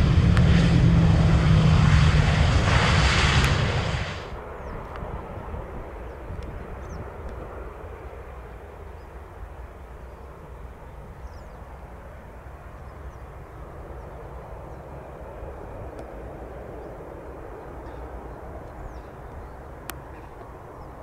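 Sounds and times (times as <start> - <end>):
distant jet engine rush: 0.0 - 21.0.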